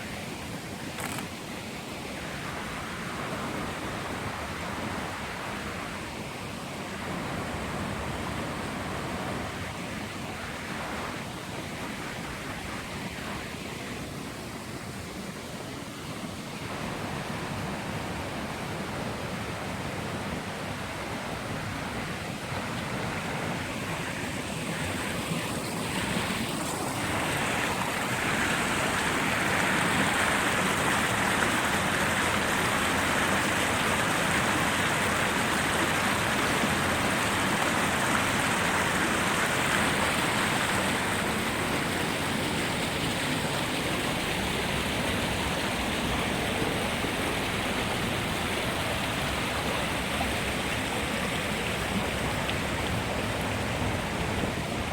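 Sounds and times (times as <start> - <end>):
rushing creek water: 0.0 - 54.9.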